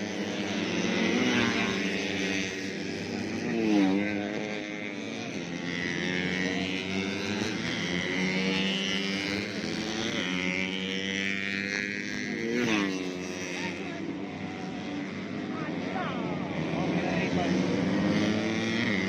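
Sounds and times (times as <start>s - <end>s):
motorcycle engines revving past: 0.0s - 19.0s.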